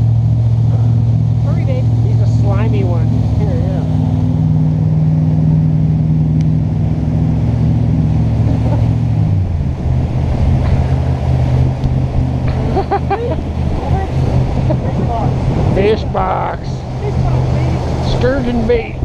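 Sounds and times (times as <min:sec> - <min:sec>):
jet boat engine running: 0:00.0 - 0:19.0.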